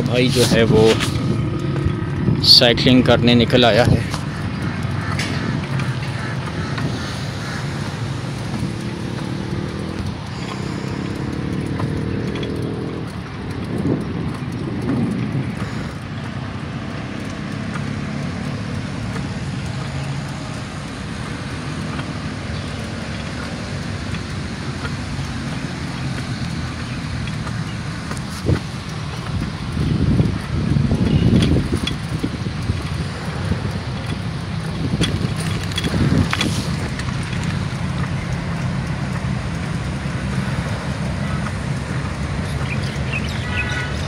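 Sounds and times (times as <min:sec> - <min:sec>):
wind rush on microphone: 0:00.0 - 0:44.0.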